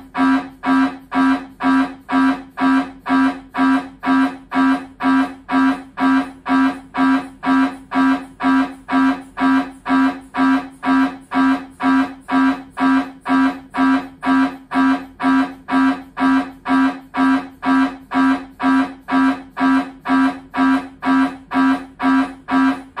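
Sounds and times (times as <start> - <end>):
mri scanner buzzing pulses: 0.0 - 23.0.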